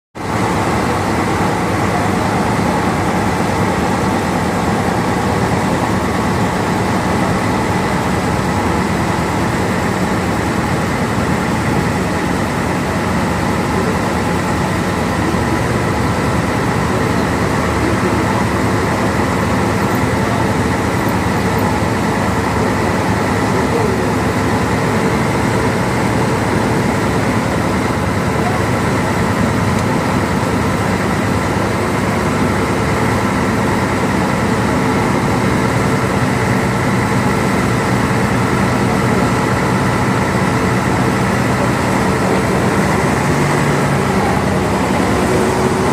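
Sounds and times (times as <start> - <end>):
engine drone: 0.2 - 45.9.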